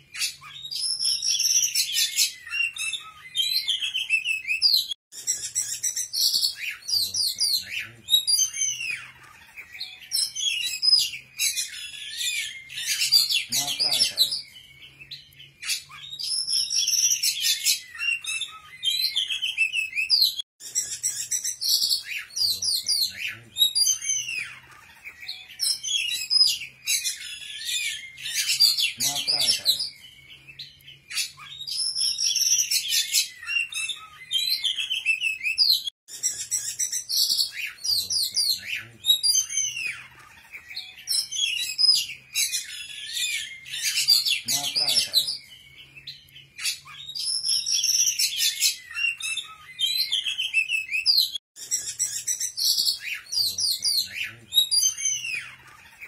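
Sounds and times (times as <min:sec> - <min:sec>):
songbird chirps trills and whistles: 0:00.0 - 0:56.0.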